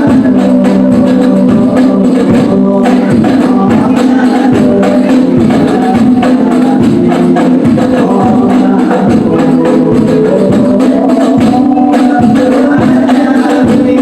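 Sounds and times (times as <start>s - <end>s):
frame drums beating: 0.0s - 14.0s
sung vocals: 0.0s - 14.0s.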